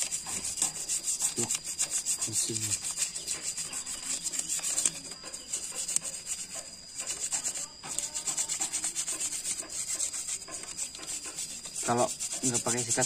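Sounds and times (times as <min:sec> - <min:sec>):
toothbrush scrubbing metal: 0:00.0 - 0:13.0.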